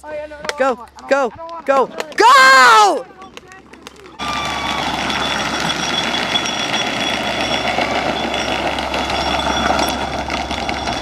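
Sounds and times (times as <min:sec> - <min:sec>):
plastic wheels rolling on pavement: 0:01.0 - 0:11.0.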